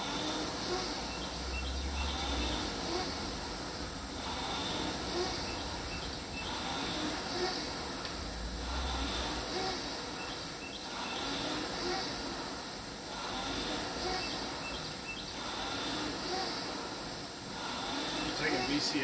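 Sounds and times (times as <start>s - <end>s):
rowing machine fan whooshing: 0.0s - 19.0s.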